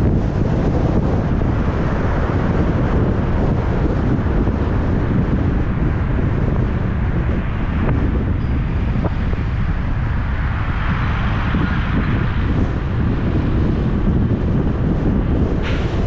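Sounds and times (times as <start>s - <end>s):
car road and wind rumble: 0.0s - 16.0s.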